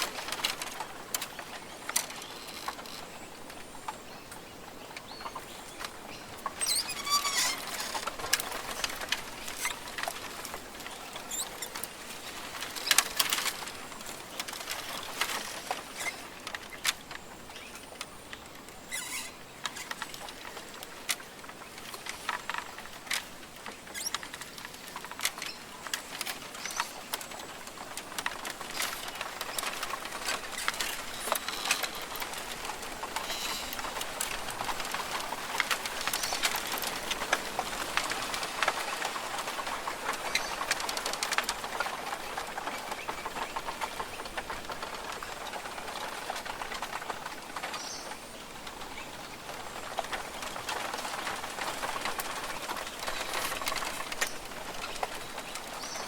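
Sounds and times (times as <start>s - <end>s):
steady rainforest hiss: 0.0s - 56.0s.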